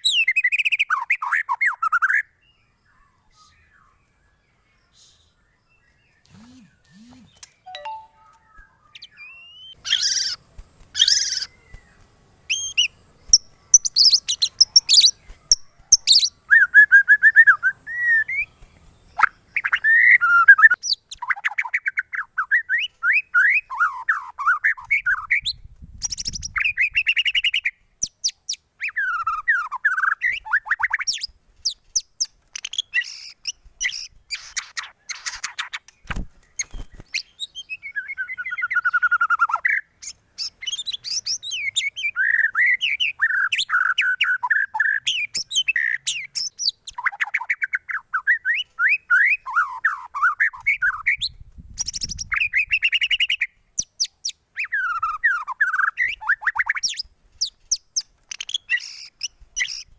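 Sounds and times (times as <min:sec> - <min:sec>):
bird singing whistles and trills: 0:00.0 - 0:10.4, 0:11.0 - 0:59.9.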